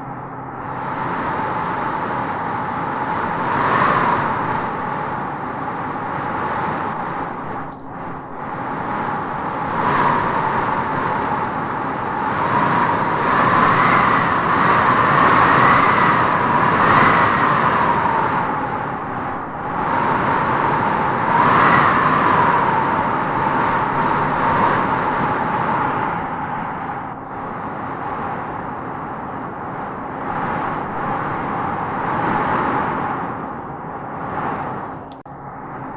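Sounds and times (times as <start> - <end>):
wind howling in gusts: 0.0 - 35.9.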